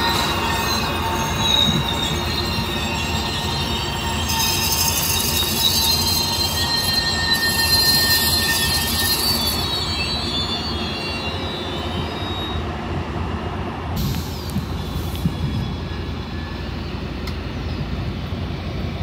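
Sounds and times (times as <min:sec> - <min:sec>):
diesel locomotive rumble: 0:00.0 - 0:19.0
train wheels squealing: 0:00.0 - 0:19.0.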